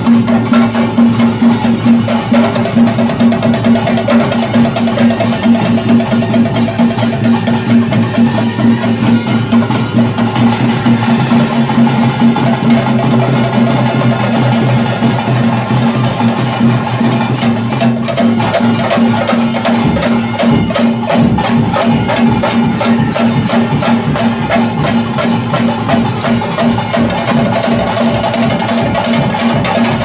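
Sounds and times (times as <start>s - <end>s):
fast percussion beats: 0.0s - 30.0s.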